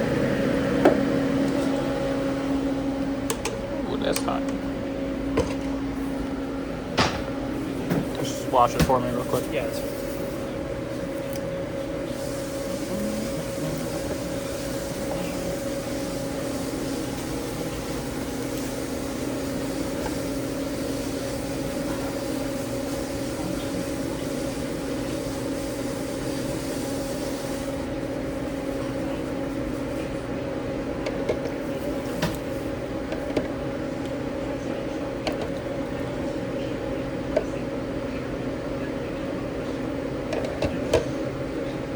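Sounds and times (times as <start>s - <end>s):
kitchen ventilation drone: 0.0s - 41.9s.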